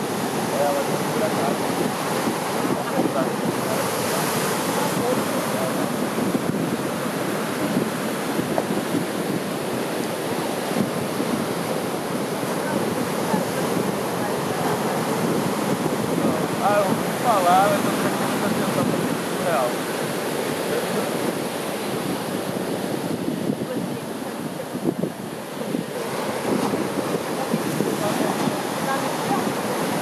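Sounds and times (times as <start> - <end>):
surf breaking on shore: 0.0 - 30.0.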